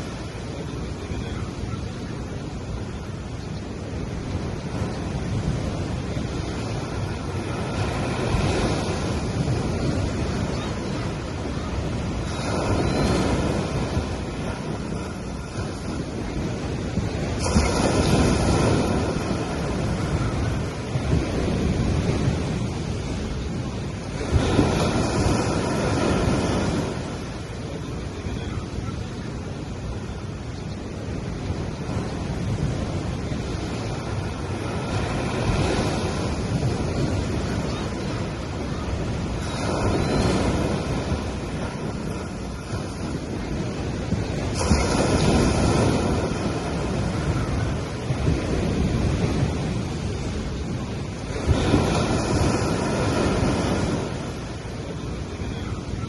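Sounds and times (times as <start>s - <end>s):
gentle waves on sandy beach: 0.0s - 56.0s.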